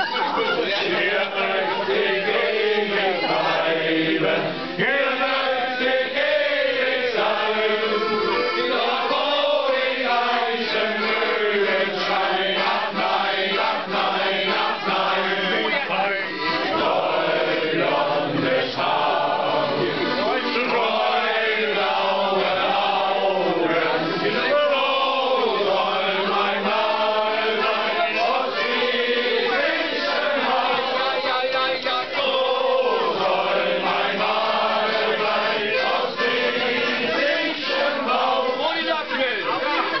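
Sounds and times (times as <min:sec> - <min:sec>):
accordion: 0:00.0 - 0:40.0
men singing in chorus: 0:00.4 - 0:38.6.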